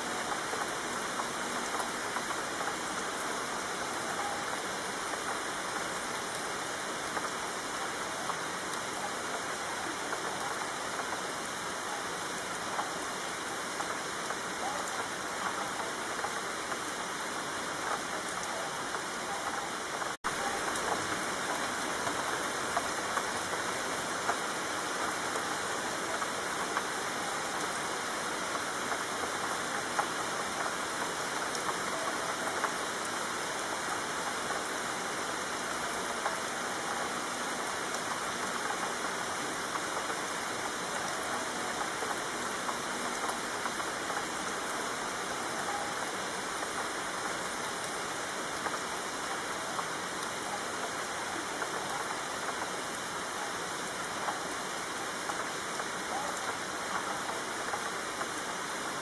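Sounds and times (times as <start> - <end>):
raindrop ticks: 0.0 - 59.0
steady rain hissing: 0.0 - 59.0.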